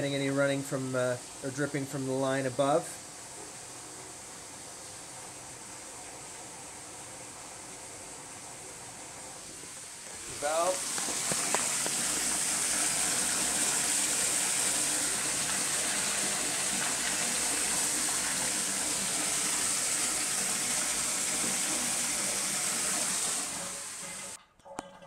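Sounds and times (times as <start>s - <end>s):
water running from tap into tub: 0.0s - 24.4s.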